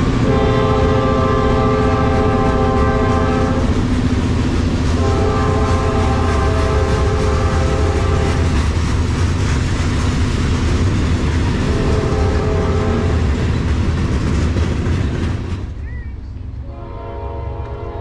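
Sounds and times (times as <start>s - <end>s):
train wheels clattering on rails: 0.0s - 16.6s.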